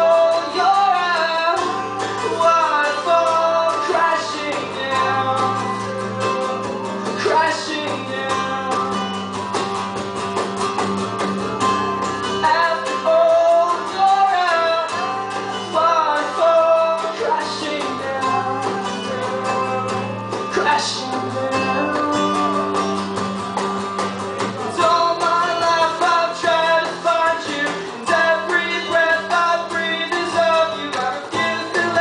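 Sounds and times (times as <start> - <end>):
person singing: 0.0 - 9.2, 12.3 - 23.2, 24.2 - 32.0
strummed acoustic guitar: 0.0 - 32.0.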